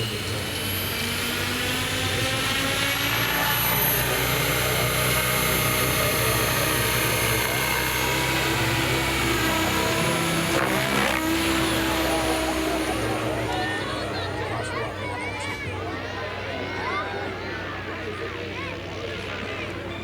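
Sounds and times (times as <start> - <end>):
model aircraft engine whine: 0.0 - 20.0.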